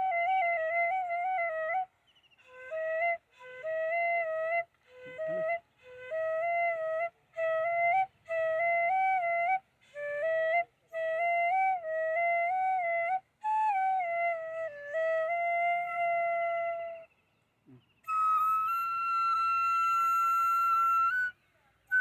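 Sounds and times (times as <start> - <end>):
flute melody: 0.0 - 17.2, 18.0 - 22.0.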